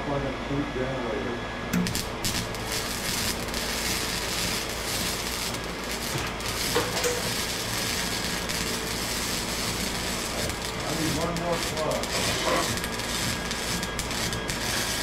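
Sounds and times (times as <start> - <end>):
welding arc crackling: 1.7 - 15.0.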